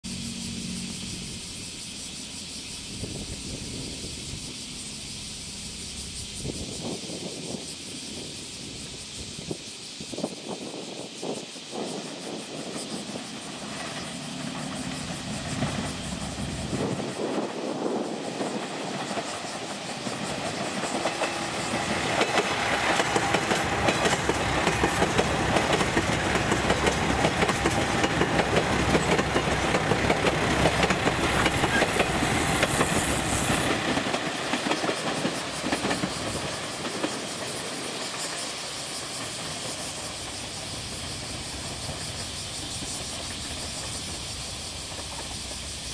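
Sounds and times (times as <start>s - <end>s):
diesel train engines running: 0.0s - 45.9s
train wheels clicking over rails: 0.1s - 45.9s.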